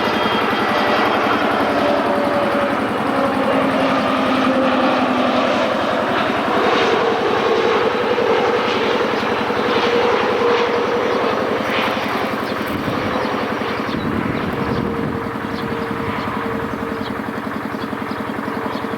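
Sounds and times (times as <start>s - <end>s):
jet airliner engines passing: 0.0s - 18.9s.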